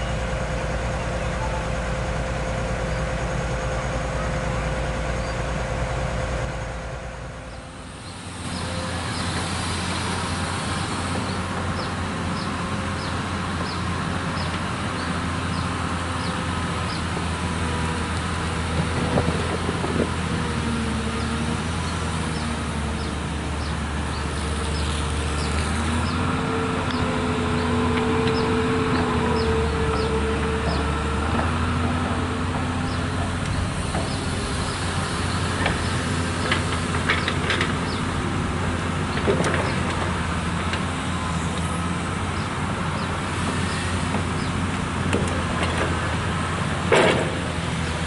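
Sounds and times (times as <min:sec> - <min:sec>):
excavator diesel engine running: 0:00.0 - 0:48.0
hydraulic whine: 0:00.0 - 0:48.0.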